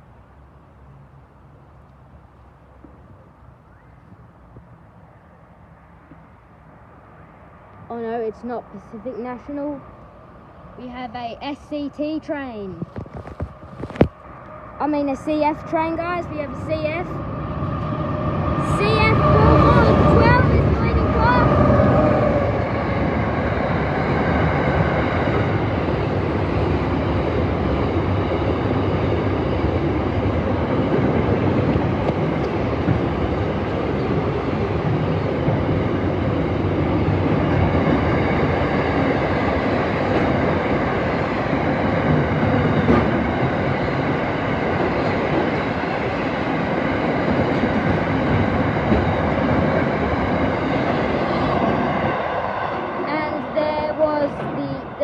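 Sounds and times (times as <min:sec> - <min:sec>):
freight train wheels on rails: 0:07.8 - 0:55.0.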